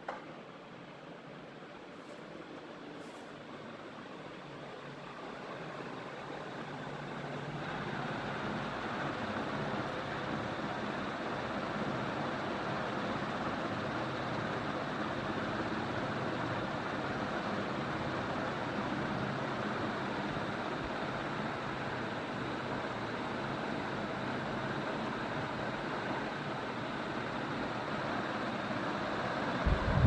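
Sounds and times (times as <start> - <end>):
ceiling fan running: 0.0 - 30.0.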